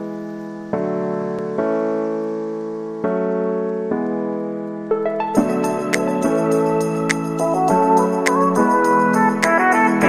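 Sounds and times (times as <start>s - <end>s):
music with sustained chords: 0.0s - 10.0s.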